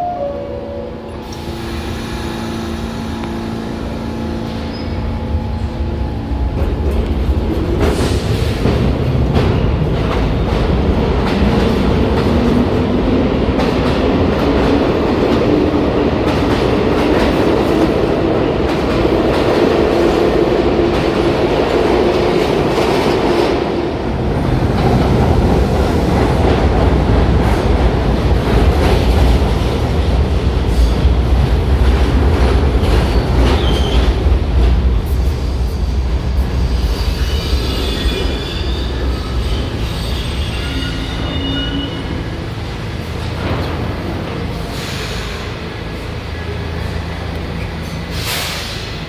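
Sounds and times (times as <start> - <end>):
train cars rumbling on track: 0.0 - 49.0
train wheels clattering on rails: 5.6 - 49.0.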